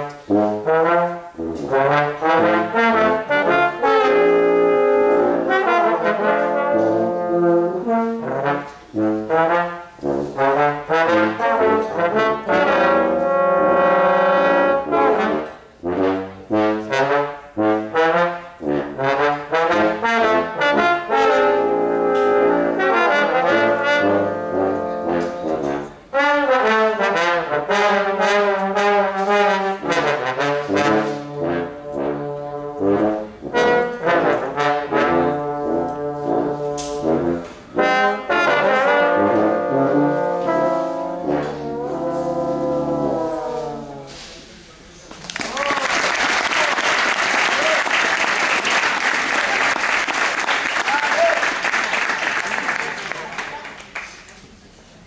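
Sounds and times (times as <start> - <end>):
brass quartet playing: 0.0 - 44.8.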